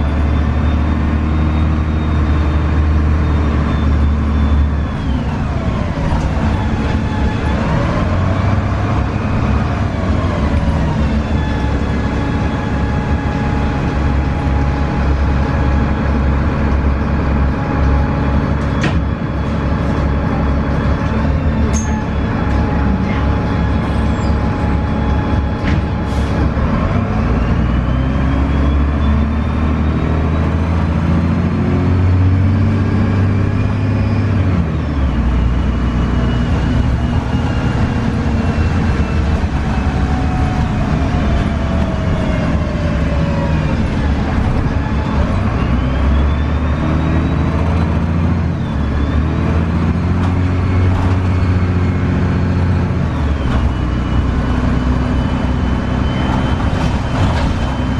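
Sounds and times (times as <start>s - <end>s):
bus diesel engine accelerating: 0.0s - 57.9s.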